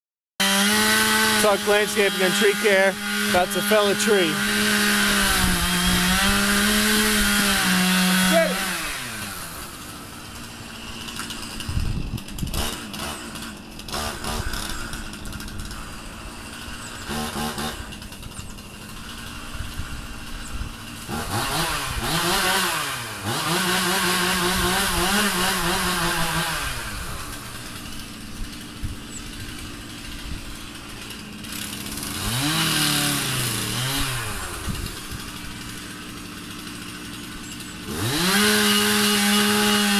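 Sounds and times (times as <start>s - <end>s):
chainsaw revving and idling: 0.4s - 39.9s.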